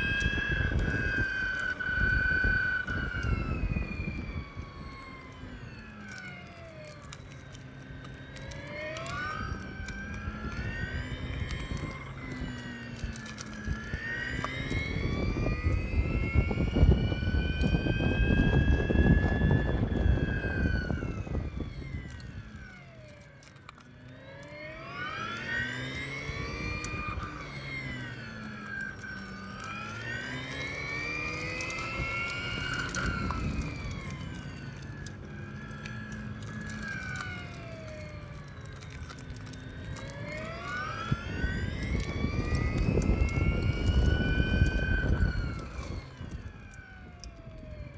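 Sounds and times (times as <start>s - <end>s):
electric scooter motor whining: 0.0s - 47.9s.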